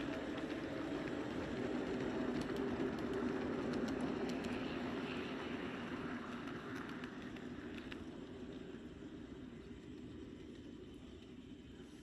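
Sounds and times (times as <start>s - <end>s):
light clicks of train wheels: 0.0s - 12.0s
model train wheels rumbling: 0.0s - 12.0s.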